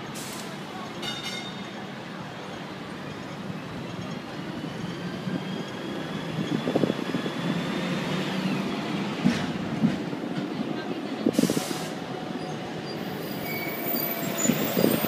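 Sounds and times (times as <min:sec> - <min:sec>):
tram wheels rumbling on rail: 0:00.4 - 0:15.0.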